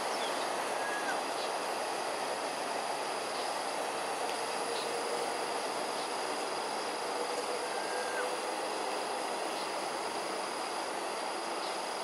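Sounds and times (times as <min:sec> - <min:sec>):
water rushing from pipes: 0:00.0 - 0:12.0.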